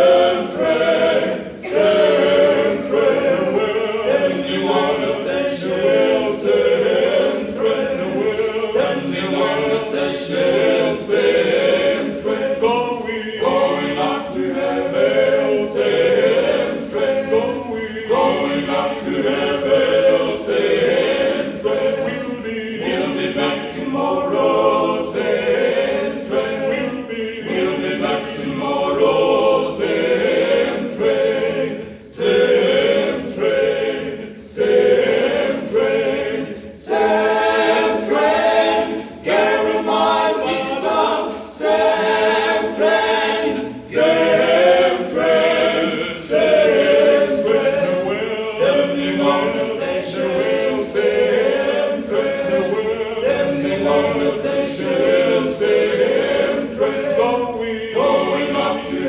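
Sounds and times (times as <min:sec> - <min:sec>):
male vocal quartet singing: 0:00.0 - 0:59.0.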